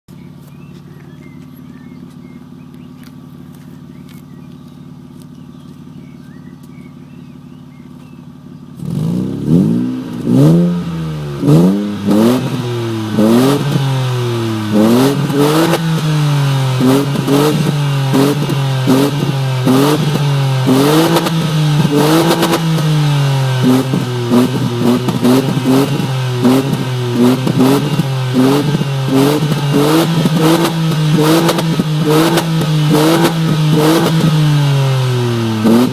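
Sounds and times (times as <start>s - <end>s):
car exhaust revving: 0.2s - 35.9s.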